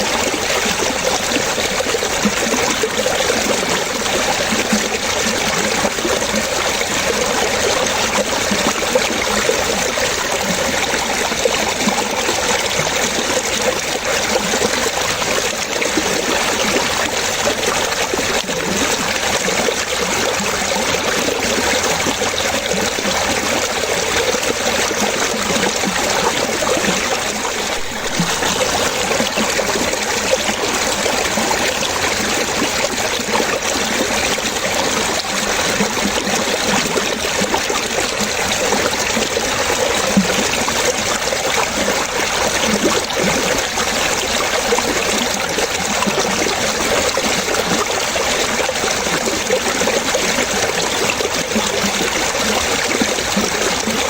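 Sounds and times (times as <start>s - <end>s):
running water splashing and trickling: 0.0s - 54.0s.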